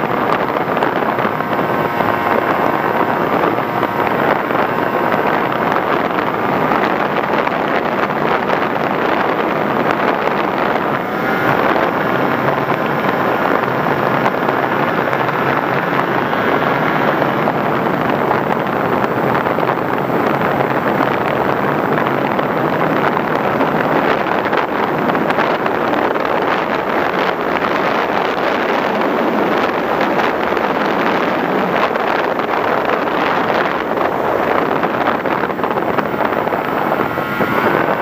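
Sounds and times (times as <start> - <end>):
model aircraft engine running: 0.0 - 38.0
wind on microphone: 0.0 - 38.0.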